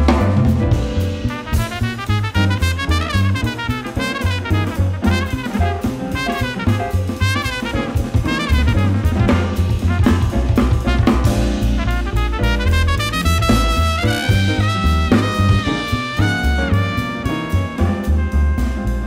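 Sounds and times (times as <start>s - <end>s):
double bass: 0.0s - 19.0s
drum kit: 0.0s - 19.0s
piano: 0.0s - 19.0s
trumpet: 0.0s - 19.0s.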